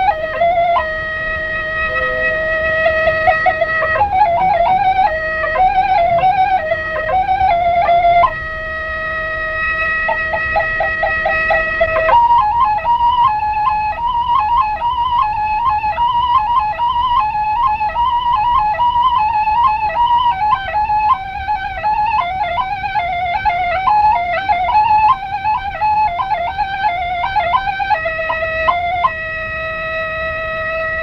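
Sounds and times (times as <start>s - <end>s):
flute playing folk melody: 0.0s - 31.0s.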